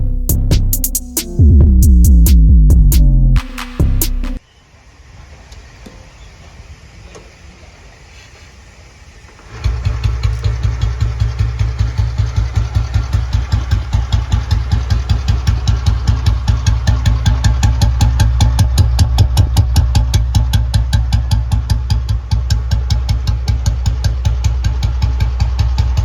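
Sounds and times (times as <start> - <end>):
motorcycle engine starting and idling: 0.0 - 26.0.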